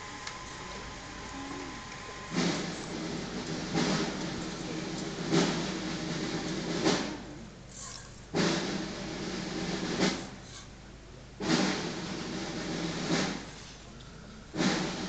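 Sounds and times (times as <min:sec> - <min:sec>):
brass band playing slow march: 0:00.0 - 0:07.6, 0:08.2 - 0:10.4, 0:11.4 - 0:13.7, 0:14.5 - 0:15.0
drum and cymbal strikes: 0:00.0 - 0:15.0.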